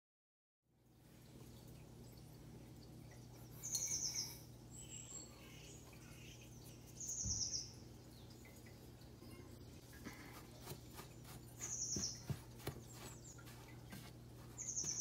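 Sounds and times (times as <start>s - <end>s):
faint steady hum: 0.7s - 15.0s
small birds chirping: 1.5s - 15.0s.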